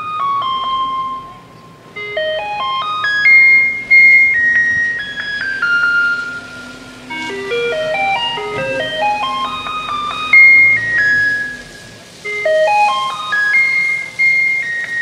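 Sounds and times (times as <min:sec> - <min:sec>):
electronic melody over loudspeaker: 0:00.0 - 0:15.0.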